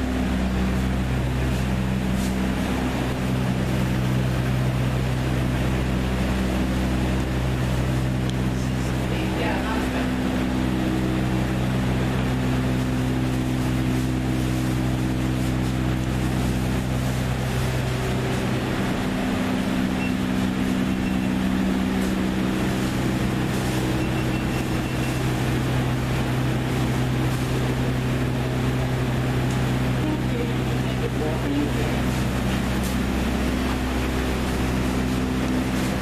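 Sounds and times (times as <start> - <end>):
low mechanical drone: 0.0 - 36.0.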